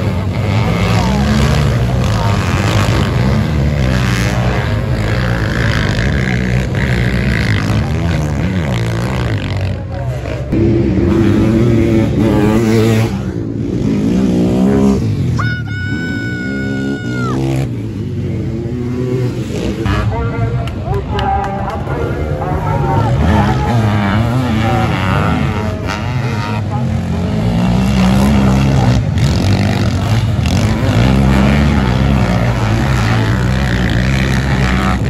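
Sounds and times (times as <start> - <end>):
motorcycle engines revving past: 0.0 - 35.0.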